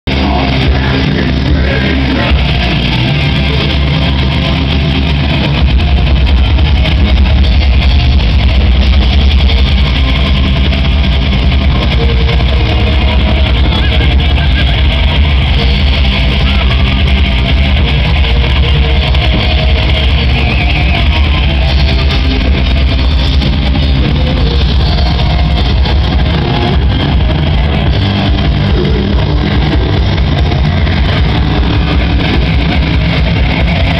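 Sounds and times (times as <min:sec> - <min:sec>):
live rock band playing: 0:00.1 - 0:33.9.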